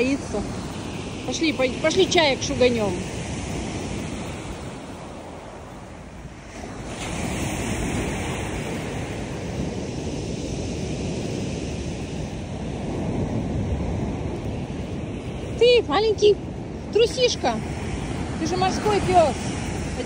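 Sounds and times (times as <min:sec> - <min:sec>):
surf breaking on shore: 0:00.0 - 0:20.0
wind buffeting microphone: 0:00.0 - 0:20.0.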